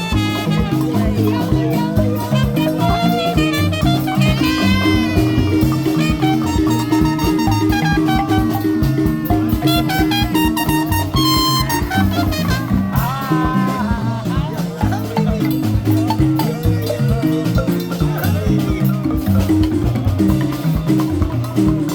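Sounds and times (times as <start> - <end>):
upbeat latin-style music: 0.0 - 21.9.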